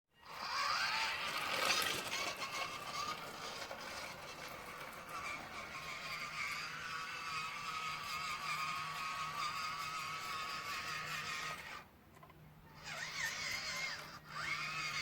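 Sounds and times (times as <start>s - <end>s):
toy truck motor whining: 0.2s - 15.0s.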